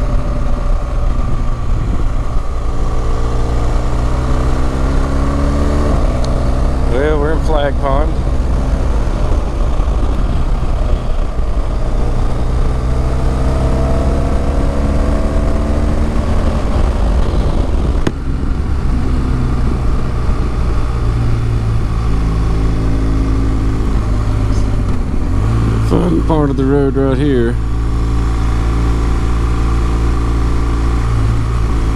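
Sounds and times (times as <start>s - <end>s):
wind rush on microphone: 0.0s - 26.5s
motorcycle engine accelerating: 0.0s - 31.9s.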